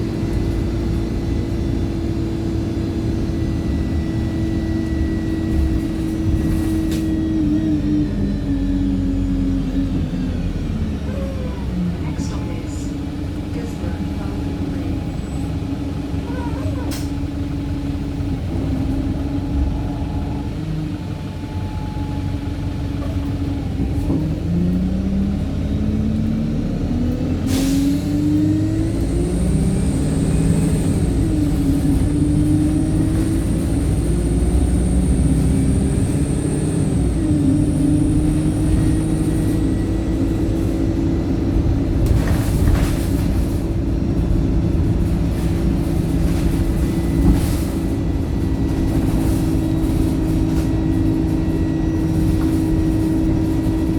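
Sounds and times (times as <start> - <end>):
bus engine: 0.0 - 53.9.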